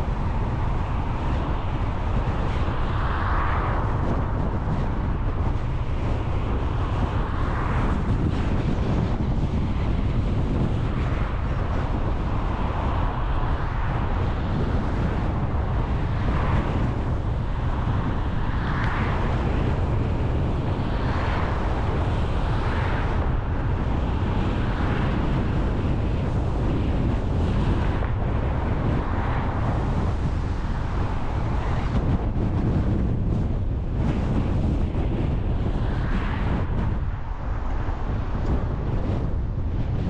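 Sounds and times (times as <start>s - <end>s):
car road and engine rumble: 0.0s - 40.0s
wind noise: 0.0s - 40.0s.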